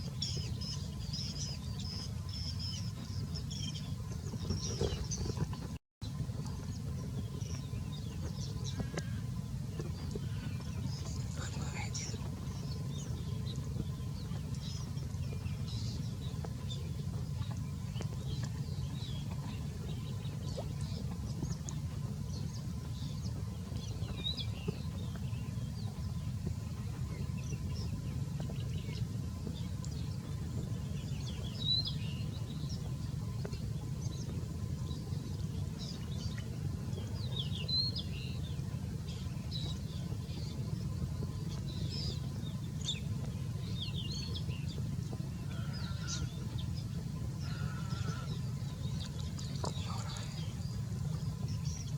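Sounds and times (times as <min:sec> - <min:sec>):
small birds chirping: 0:00.0 - 0:51.9
steady low rumble: 0:00.0 - 0:51.9.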